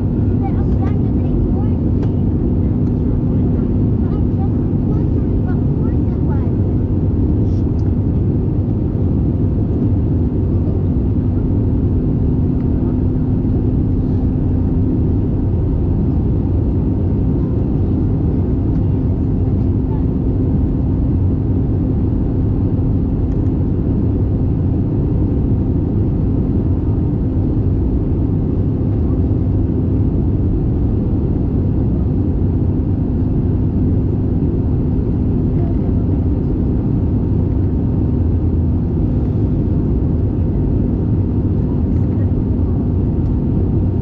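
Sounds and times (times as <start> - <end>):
aircraft cabin rumble: 0.0 - 44.0.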